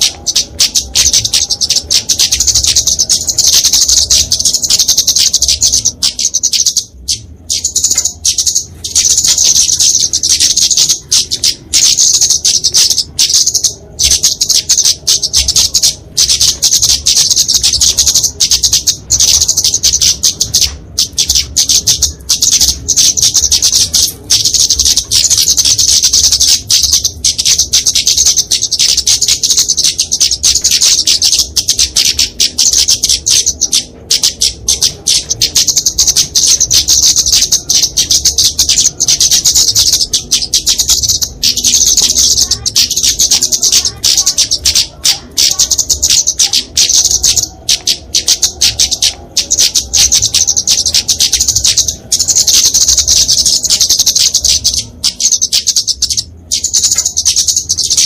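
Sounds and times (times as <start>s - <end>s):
bird rapid high chips and twitters: 0.0s - 58.0s.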